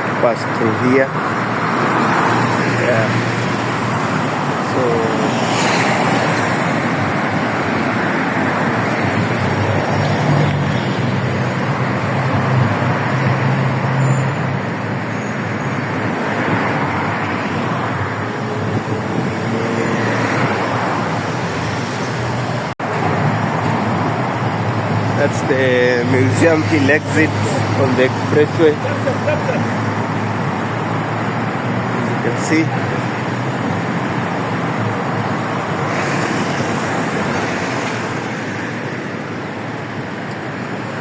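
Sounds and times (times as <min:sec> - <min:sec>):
cars passing on highway: 0:00.0 - 0:41.0.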